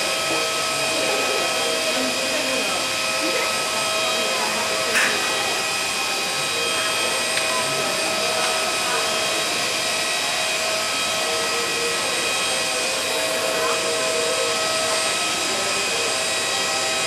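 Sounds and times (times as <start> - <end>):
jet turbine whine: 0.0 - 17.0.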